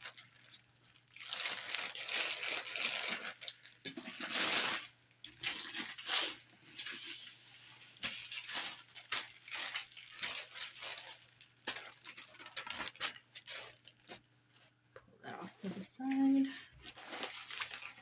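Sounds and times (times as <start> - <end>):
plastic wrap crinkling: 0.0 - 14.8, 15.6 - 18.0.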